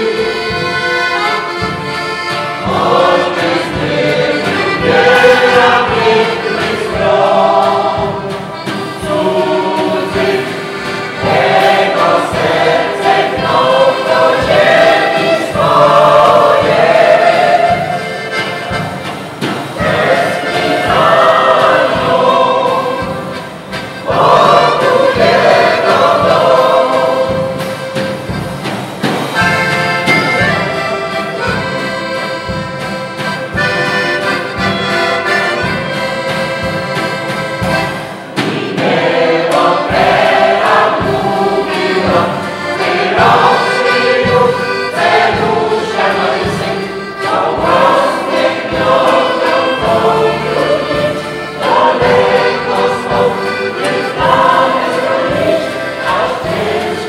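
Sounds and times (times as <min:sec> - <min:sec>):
accordion: 0:00.0 - 0:57.0
choir singing: 0:00.0 - 0:57.0.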